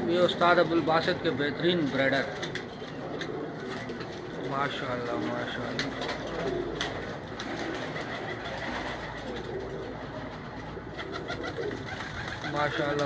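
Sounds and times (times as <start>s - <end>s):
pigeons cooing: 0.0s - 13.0s
wings fluttering: 1.9s - 13.0s.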